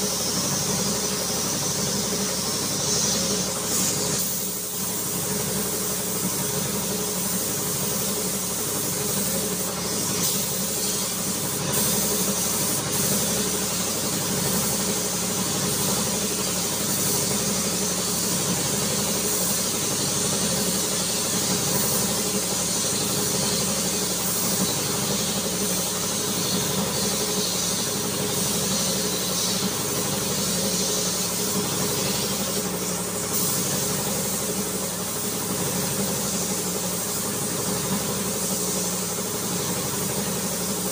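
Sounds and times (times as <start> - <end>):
compressed air hissing: 0.0 - 40.9.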